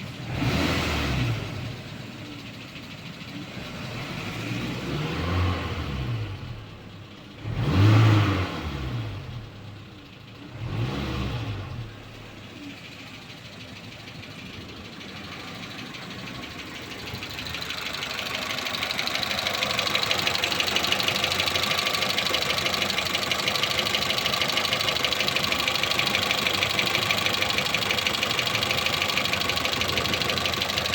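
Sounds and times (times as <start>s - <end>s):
car engine revving and idling: 0.0s - 30.9s
fast regular engine ticking: 0.0s - 30.9s.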